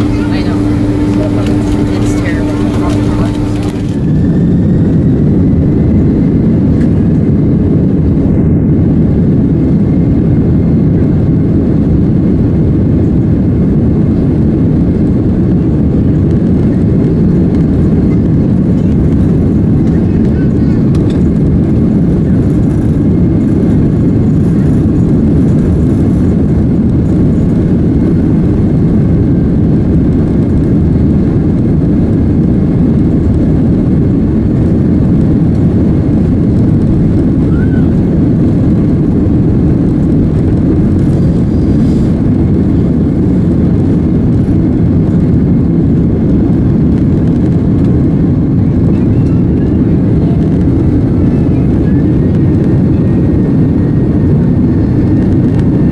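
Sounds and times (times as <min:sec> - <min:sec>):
jet engines rumbling in cabin: 0:00.0 - 0:55.9.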